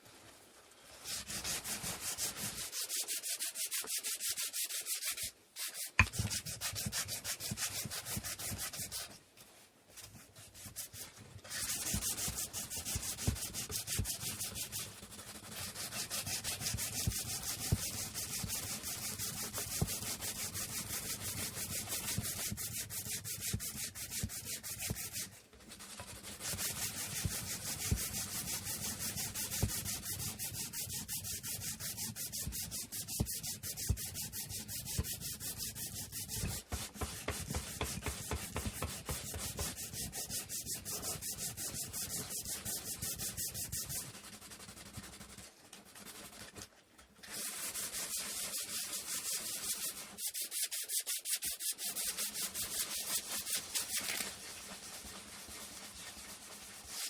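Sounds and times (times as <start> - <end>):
sandpaper rubbing on wood: 1.0 - 9.2, 10.4 - 46.5, 47.3 - 57.0.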